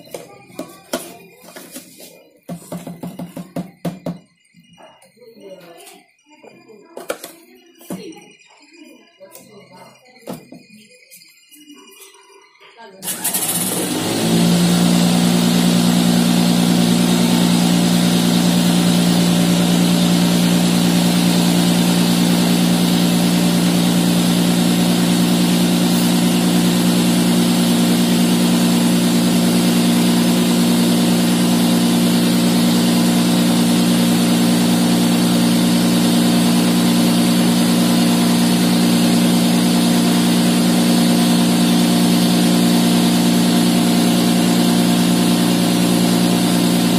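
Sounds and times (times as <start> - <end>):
cotton candy machine motor humming: 0.0 - 46.9.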